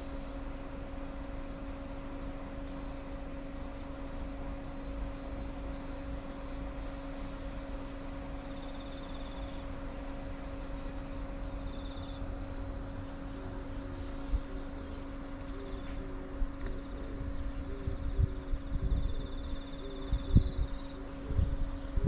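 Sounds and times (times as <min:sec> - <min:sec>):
faint steady hum: 0:00.0 - 0:22.0
insects buzzing: 0:00.0 - 0:22.0
rapid pulsed insect chirps: 0:00.0 - 0:22.0.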